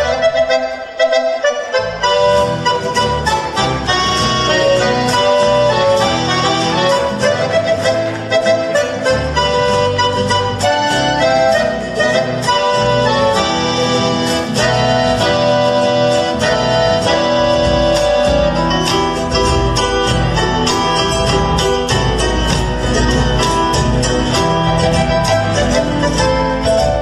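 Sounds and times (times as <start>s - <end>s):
folk music with strummed guitars: 0.0s - 27.0s.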